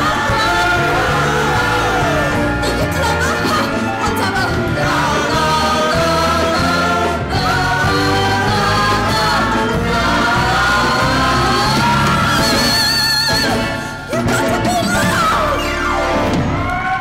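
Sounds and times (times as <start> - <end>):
voices singing: 0.0 - 13.8
upbeat orchestra music: 0.0 - 17.0.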